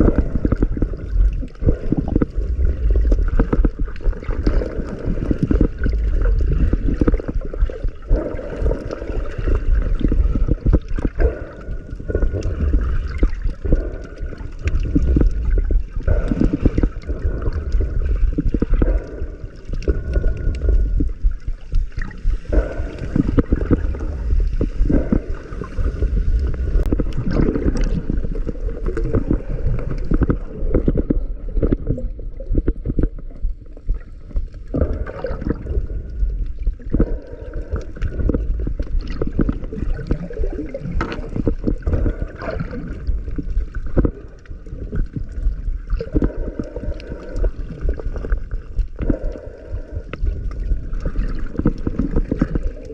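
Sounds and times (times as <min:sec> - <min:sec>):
underwater water sloshing and bubbling: 0:00.0 - 0:52.9.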